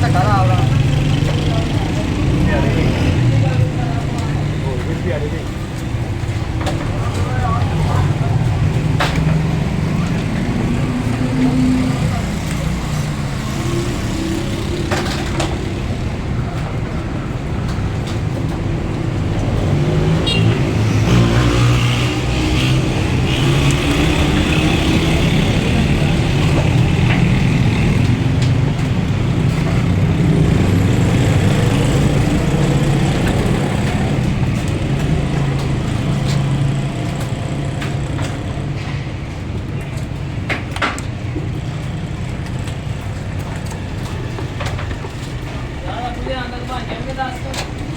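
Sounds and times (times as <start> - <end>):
vehicle engine revving unevenly: 0.0 - 47.9.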